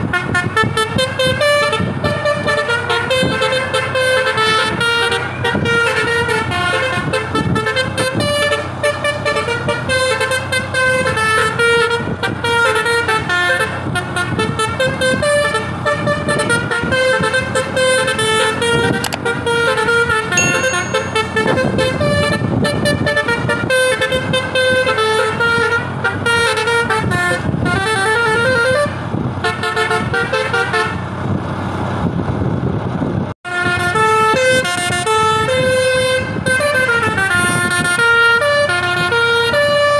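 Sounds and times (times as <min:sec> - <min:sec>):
bus horn playing fast melody: 0:00.0 - 0:31.1, 0:33.5 - 0:39.9.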